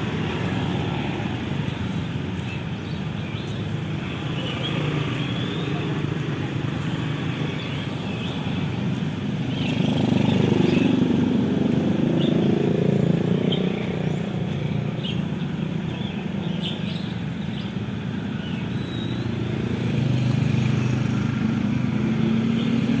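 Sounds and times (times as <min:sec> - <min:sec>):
motorcycles and cars passing: 0:00.0 - 0:23.0.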